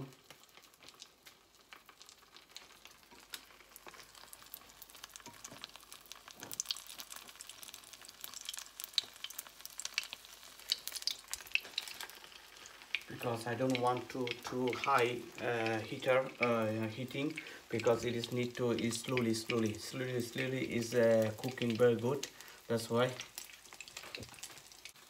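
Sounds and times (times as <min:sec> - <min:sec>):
food sizzling in oil: 0:00.0 - 0:25.0
oil crackling and popping: 0:00.0 - 0:25.0.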